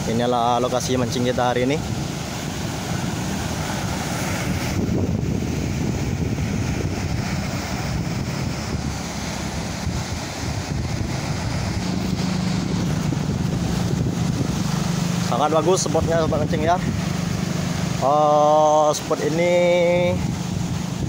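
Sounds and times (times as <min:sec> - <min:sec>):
surf breaking against rocks: 0:00.0 - 0:21.0
wind buffeting microphone: 0:00.0 - 0:21.0.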